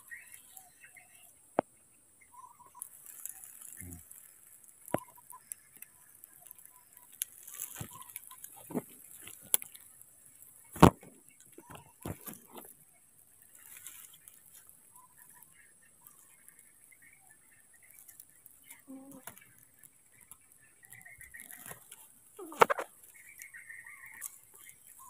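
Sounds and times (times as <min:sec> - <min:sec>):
rustling in dry leaves: 0:00.0 - 0:01.3, 0:02.3 - 0:25.0.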